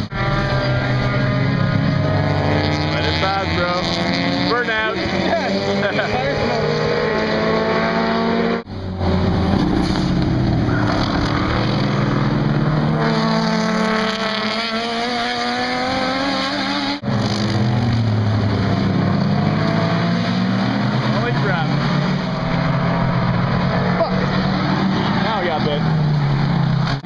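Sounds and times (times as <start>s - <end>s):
race car engines at full throttle: 0.0s - 27.0s.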